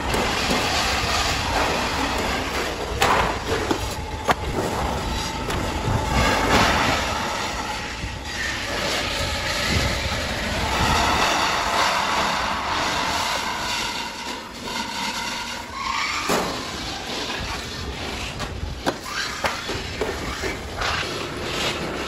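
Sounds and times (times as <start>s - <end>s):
metal sheet scraping and rattling: 0.0s - 22.0s.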